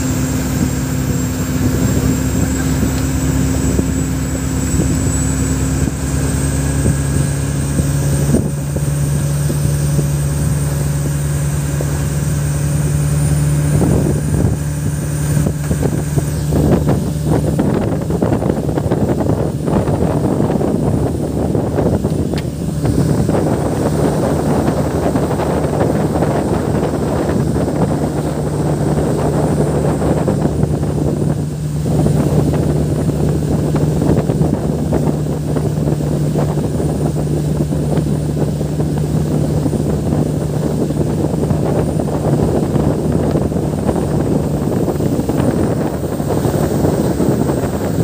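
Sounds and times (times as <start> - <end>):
speedboat engine humming: 0.0 - 48.0
wind buffeting microphone: 0.0 - 48.0.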